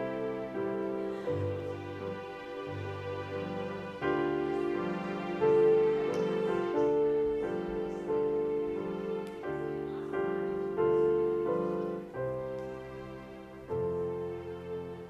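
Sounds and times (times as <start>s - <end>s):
keyboard playing held chords: 0.0s - 15.0s.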